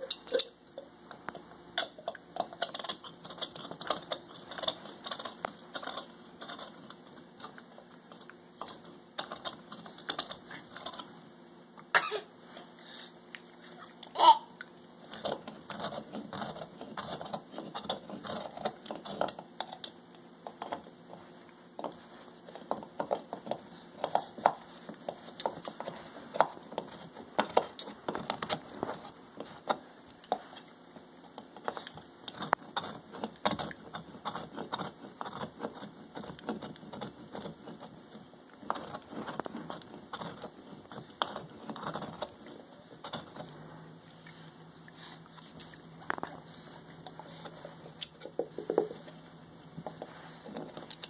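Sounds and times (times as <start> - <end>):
dog gnawing a hard bone: 0.0 - 11.2, 14.6 - 51.0.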